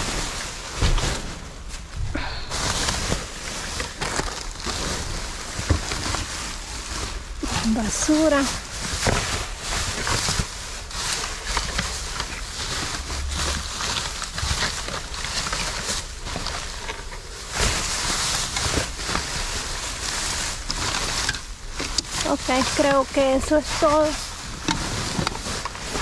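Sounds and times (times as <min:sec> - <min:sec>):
trash bags rustling and knocking: 0:00.0 - 0:26.0.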